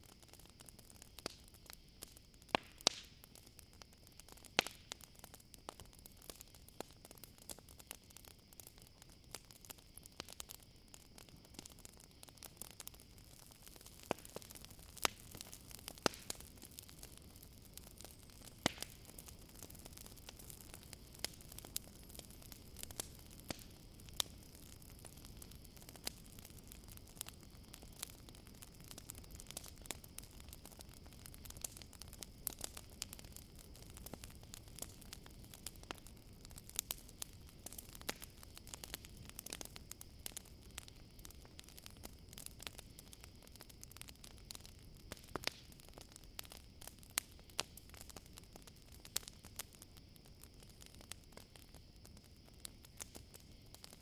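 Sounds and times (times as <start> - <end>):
campfire crackling and popping: 0.0 - 54.0
crickets chirring: 3.1 - 54.0.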